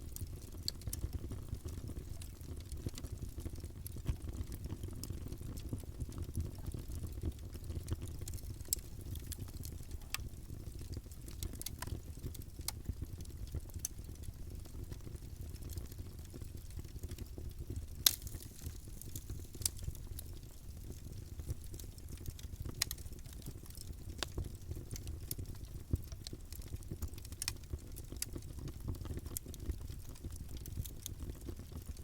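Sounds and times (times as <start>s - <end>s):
campfire flames rumbling: 0.0s - 32.0s
fire crackles and pops: 0.0s - 32.0s.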